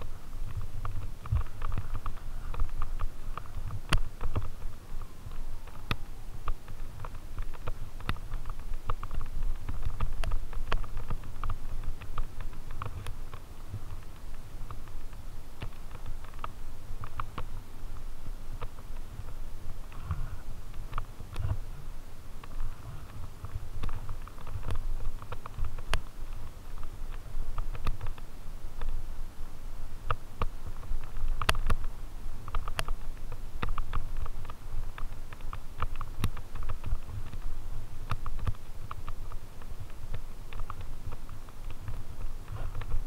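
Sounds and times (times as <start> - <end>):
bike clicks and rattles: 0.0 - 29.1, 30.0 - 43.0
mountain bike rumbling on dirt trail: 0.0 - 43.0.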